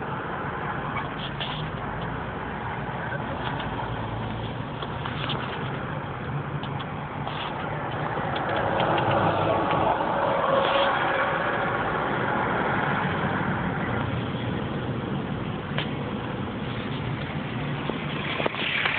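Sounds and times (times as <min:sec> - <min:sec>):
car engine and road rumble: 0:00.0 - 0:18.9.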